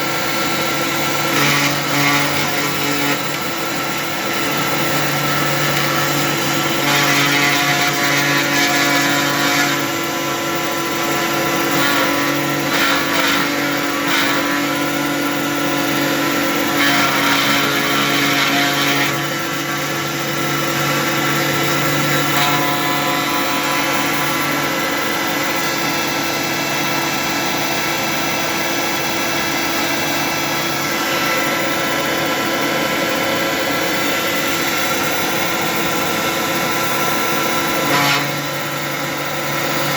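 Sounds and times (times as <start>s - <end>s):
cnc router running: 0.0s - 39.9s
dust extraction vacuum hissing: 0.2s - 39.9s.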